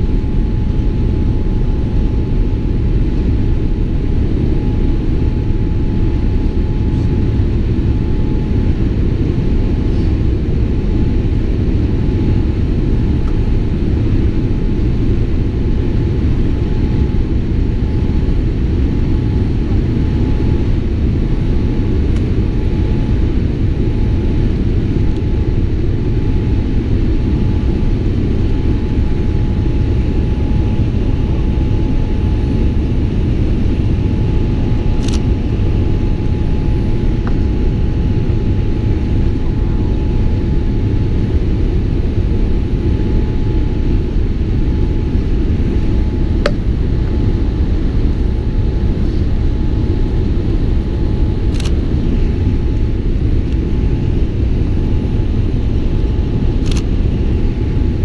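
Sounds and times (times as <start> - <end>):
airliner cabin rumble: 0.0 - 58.0
thin steady whine: 0.0 - 58.0.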